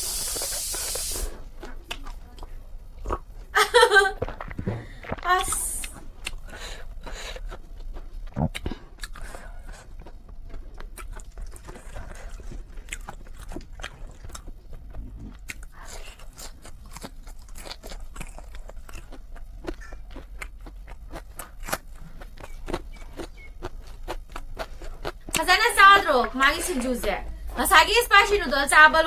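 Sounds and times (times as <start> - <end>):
person chewing noodles: 0.0 - 3.5, 4.2 - 25.5.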